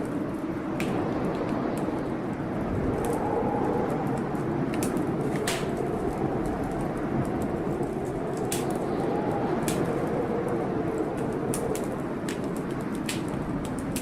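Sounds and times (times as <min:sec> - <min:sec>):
low roar of storm: 0:00.0 - 0:14.0
wood fire crackling and popping: 0:00.0 - 0:14.0.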